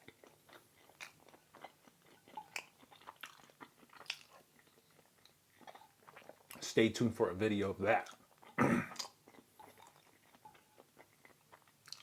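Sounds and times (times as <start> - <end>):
person chewing food: 0.0 - 6.7, 8.0 - 12.0.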